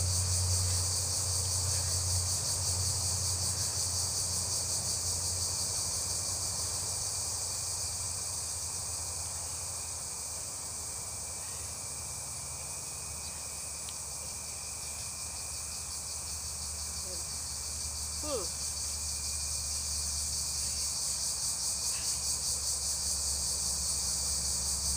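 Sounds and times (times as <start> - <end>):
high-pitched insect chorus: 0.0 - 24.9.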